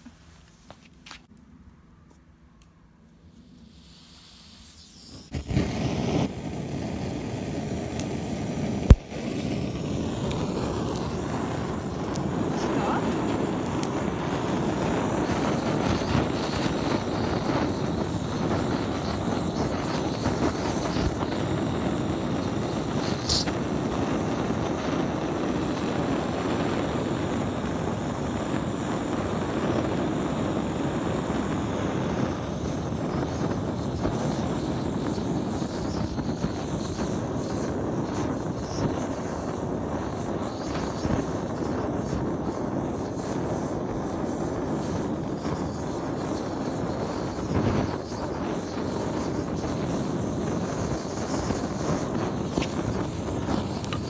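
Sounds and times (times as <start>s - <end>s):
blowtorch flame burning: 2.6s - 54.0s.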